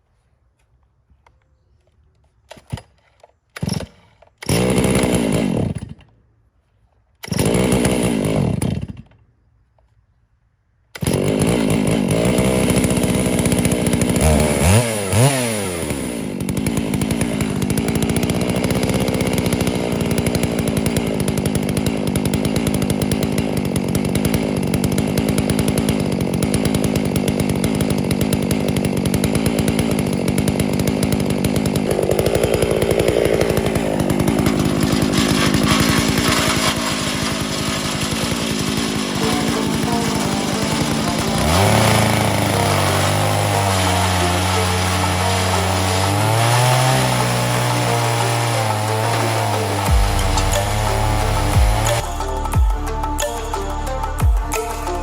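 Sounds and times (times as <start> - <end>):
chainsaw starting and running: 2.5 - 6.2, 7.2 - 9.2, 10.9 - 55.0.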